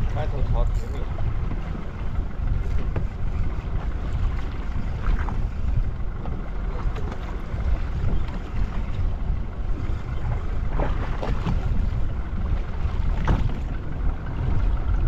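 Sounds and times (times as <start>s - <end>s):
boat noise rumble: 0.0s - 15.0s
wind: 0.0s - 15.0s.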